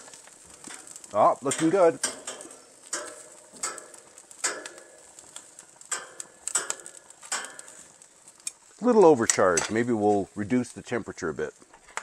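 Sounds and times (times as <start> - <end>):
metal tongs clinking on grill grate: 0.0 - 10.2.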